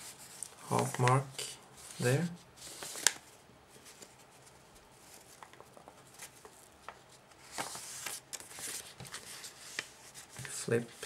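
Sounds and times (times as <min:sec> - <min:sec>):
paper rustling and creasing: 0:00.0 - 0:11.0.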